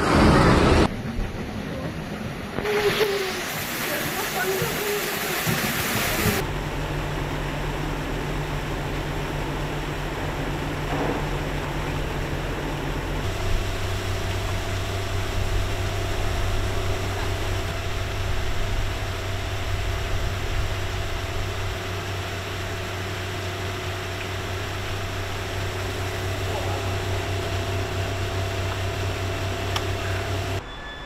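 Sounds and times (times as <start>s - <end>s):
machine engine humming: 0.0s - 30.9s.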